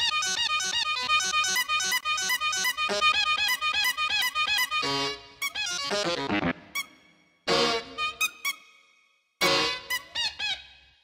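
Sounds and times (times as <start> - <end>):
music played with bike-horn honks: 0.0 - 8.8, 9.4 - 10.6.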